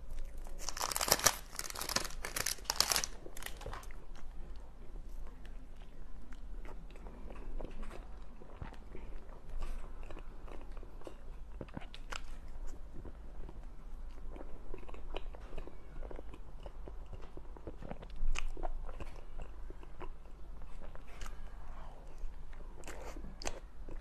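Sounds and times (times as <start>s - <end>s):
close-up chewing and biting: 0.0s - 4.7s, 6.3s - 24.0s.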